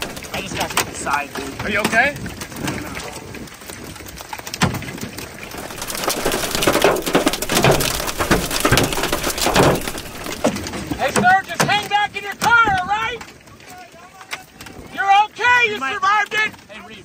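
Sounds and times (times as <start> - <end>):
hail pelting a vehicle: 0.0 - 17.0.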